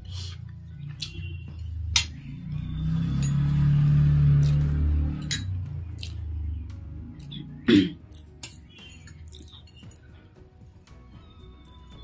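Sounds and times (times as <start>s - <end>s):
low background music: 0.0s - 12.0s.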